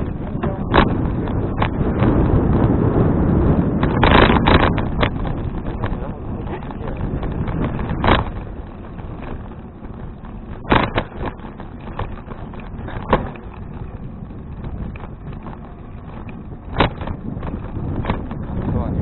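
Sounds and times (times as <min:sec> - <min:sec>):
bicycle jolting over bumps: 0:00.0 - 0:19.0
wind rumbling on microphone: 0:00.0 - 0:19.0.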